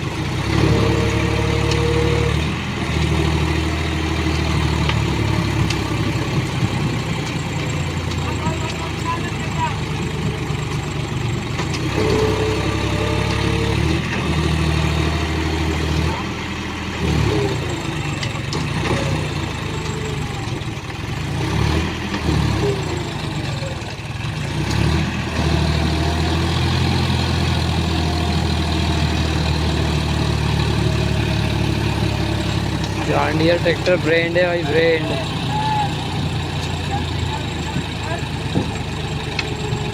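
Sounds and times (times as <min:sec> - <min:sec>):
tractor diesel engine revving: 0:00.0 - 0:39.9.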